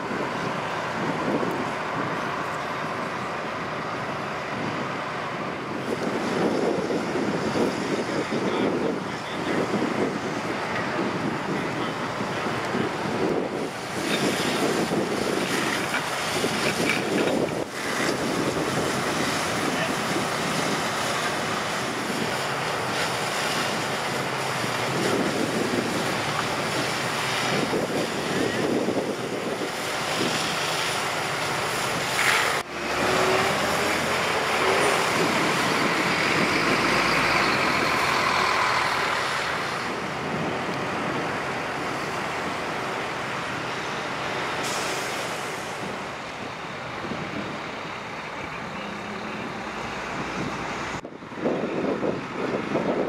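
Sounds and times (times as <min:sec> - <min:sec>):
traffic noise: 0:00.0 - 0:53.0
truck engines running: 0:00.0 - 0:53.0.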